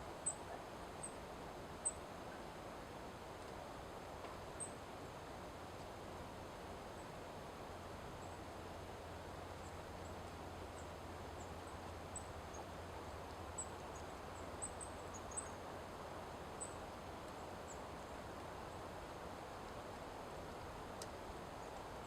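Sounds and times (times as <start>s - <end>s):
steady low background noise: 0.0s - 22.0s.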